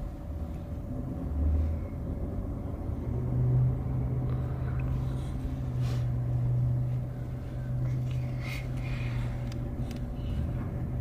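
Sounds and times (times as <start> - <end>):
car road and engine rumble: 0.0 - 11.0
low drone: 0.0 - 11.0.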